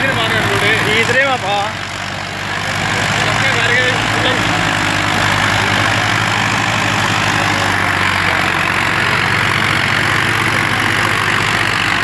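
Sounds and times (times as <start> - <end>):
diesel tractor engine chugging: 0.0 - 12.0.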